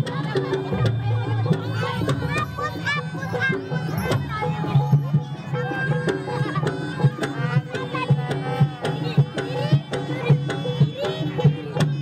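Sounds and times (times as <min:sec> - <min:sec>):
hand drums in repeated rhythm: 0:00.0 - 0:12.0
wavering reed pipe melody: 0:00.8 - 0:12.0.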